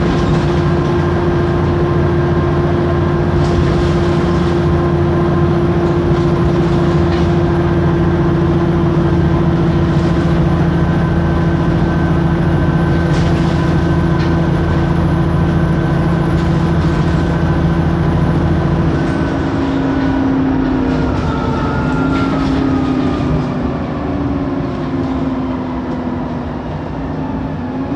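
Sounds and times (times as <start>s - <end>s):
cooling fans: 0.0s - 27.9s
diesel bus engine running: 0.0s - 27.9s.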